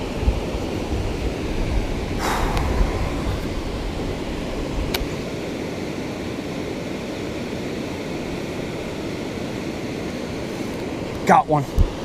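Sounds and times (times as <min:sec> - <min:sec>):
river water rushing: 0:00.6 - 0:11.4.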